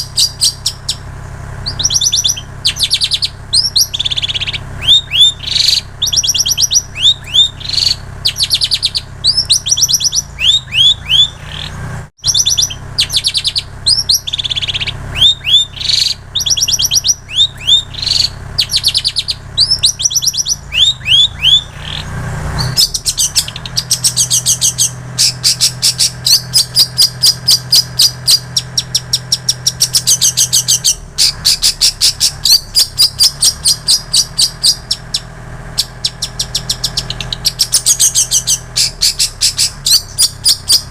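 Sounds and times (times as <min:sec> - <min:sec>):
bird singing sharp whistles: 0:00.0 - 0:01.0, 0:01.6 - 0:40.9.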